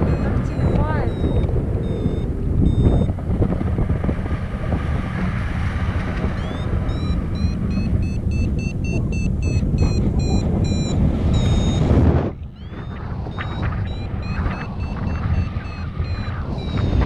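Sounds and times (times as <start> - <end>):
variometer beeps rising in pitch: 0.0 - 3.2, 6.3 - 17.0
wind rushing over microphone: 0.0 - 17.0.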